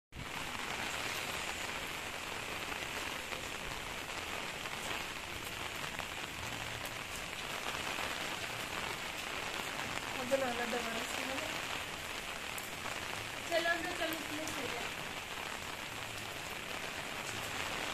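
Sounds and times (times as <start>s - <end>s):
rain on concrete rooftop: 0.1s - 17.9s.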